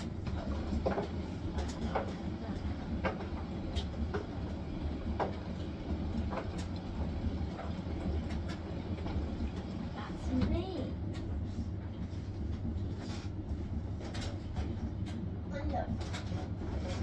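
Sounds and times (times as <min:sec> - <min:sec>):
washing machine drum rumble: 0:00.0 - 0:17.0.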